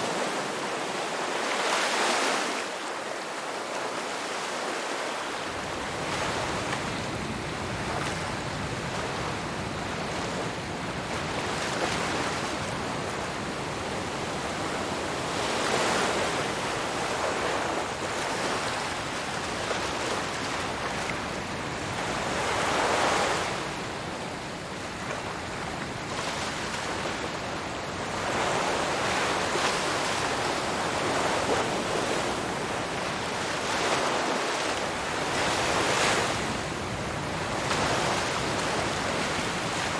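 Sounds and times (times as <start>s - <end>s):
ocean waves breaking: 0.0s - 2.9s, 3.8s - 23.9s, 24.7s - 39.9s.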